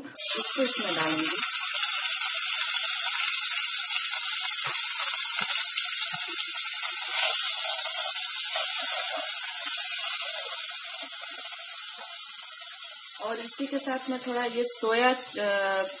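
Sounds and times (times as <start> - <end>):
paste sizzling in hot oil: 0.2 - 16.0.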